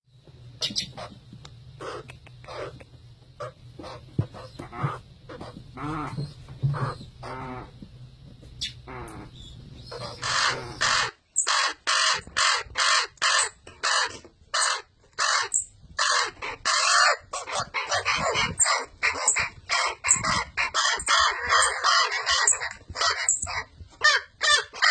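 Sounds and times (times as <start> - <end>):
baby birds begging calls: 0.6 - 1.2, 1.8 - 2.8, 3.4 - 7.8, 8.6 - 24.9.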